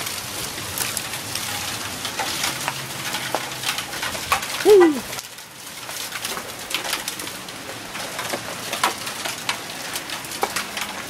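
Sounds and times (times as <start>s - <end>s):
hailstones striking pavement and cars: 0.0s - 11.0s
rain hiss: 0.0s - 11.0s.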